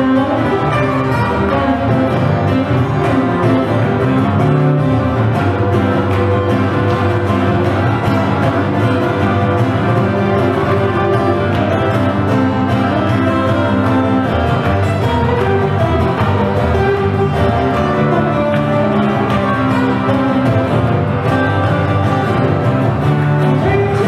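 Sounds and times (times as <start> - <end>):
acoustic band playing: 0.0 - 24.0
acoustic guitars: 0.0 - 24.0.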